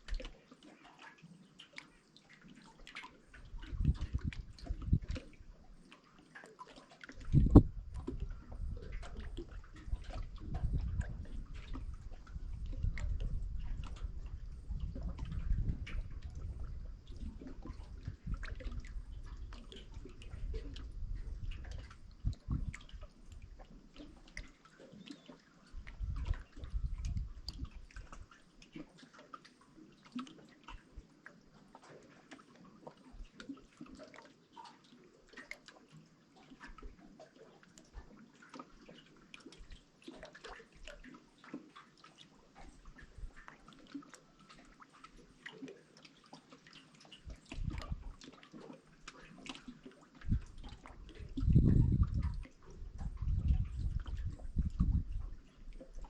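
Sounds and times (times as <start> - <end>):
small splashes and clicks: 0.0 - 56.0
water trickling and dripping: 0.0 - 56.0.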